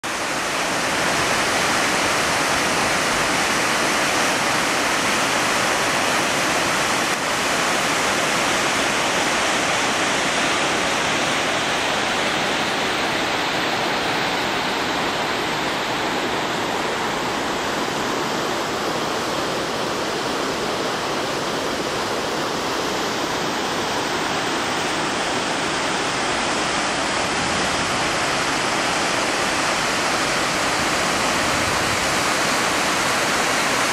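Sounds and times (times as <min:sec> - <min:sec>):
creek rushing over rocks: 0:00.0 - 0:33.9.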